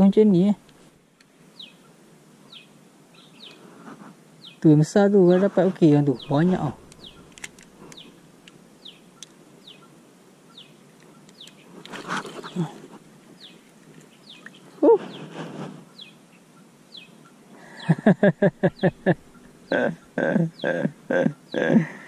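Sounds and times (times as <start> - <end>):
rustle: 0.0 - 22.0.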